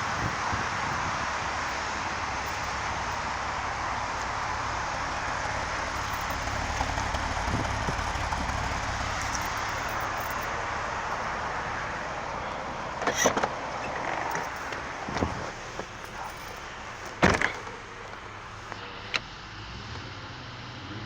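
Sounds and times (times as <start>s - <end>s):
car engine misfiring: 0.0s - 20.2s.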